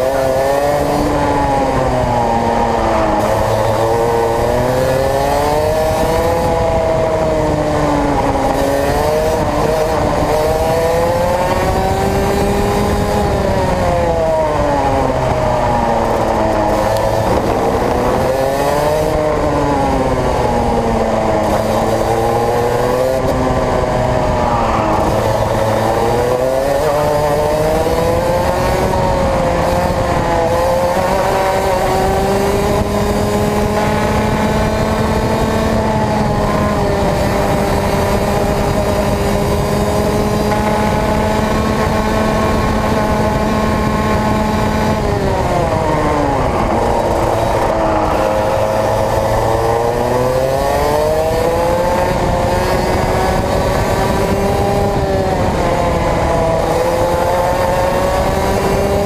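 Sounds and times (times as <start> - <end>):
kart engine accelerating: 0.0 - 59.0.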